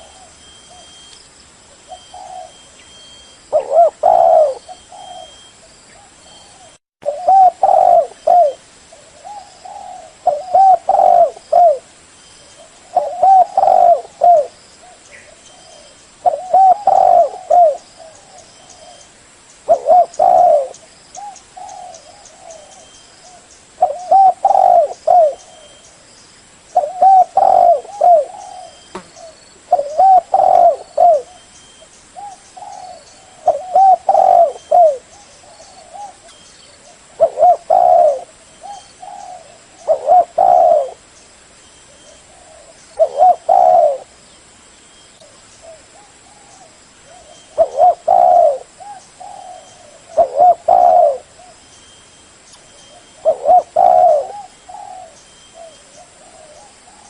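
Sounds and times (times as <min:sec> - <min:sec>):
dove cooing: 0:01.8 - 0:11.9, 0:12.5 - 0:19.1, 0:19.7 - 0:25.9, 0:26.8 - 0:31.5, 0:32.2 - 0:41.1, 0:41.9 - 0:44.2, 0:45.2 - 0:51.6, 0:52.8 - 0:57.0.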